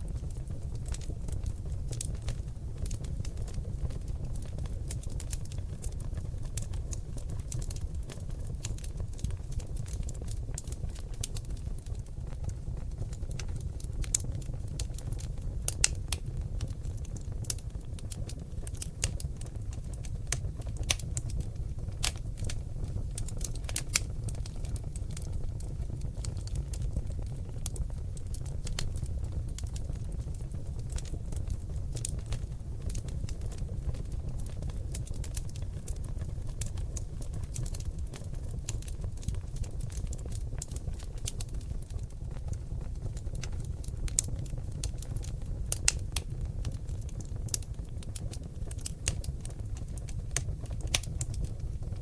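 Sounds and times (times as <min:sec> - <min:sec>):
logs crackling and popping: 0:00.0 - 0:52.0
low rumble of burning fire: 0:00.0 - 0:52.0.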